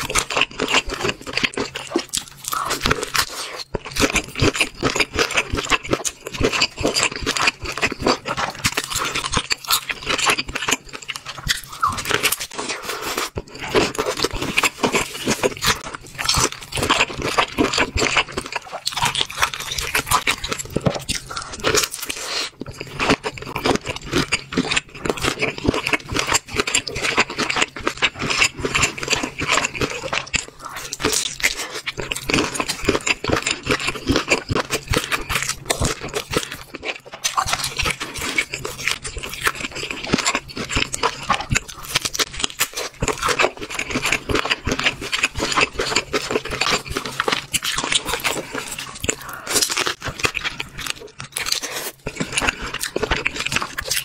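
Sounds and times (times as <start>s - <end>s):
crunching and chewing seafood: 0.0s - 54.0s.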